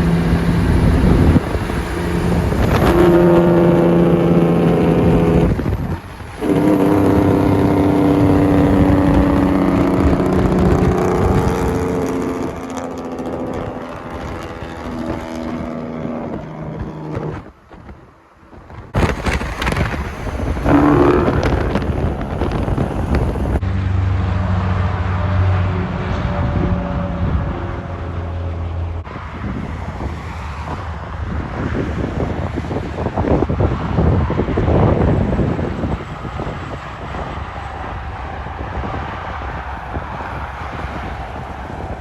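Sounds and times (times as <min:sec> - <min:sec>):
wind buffeting microphone: 0:00.0 - 0:23.7, 0:25.8 - 0:42.0
trucks driving past: 0:00.0 - 0:42.0.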